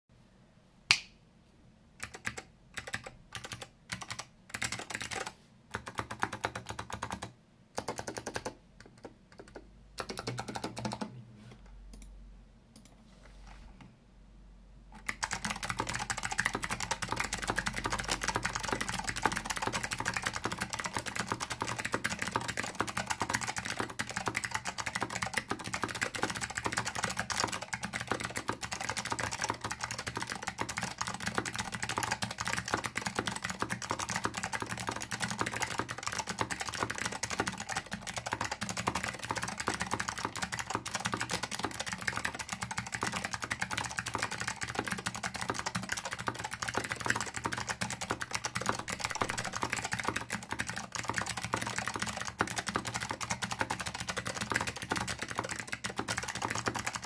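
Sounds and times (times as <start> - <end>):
clicky mechanical keyboard typing: 2.0 - 11.2, 15.0 - 57.0.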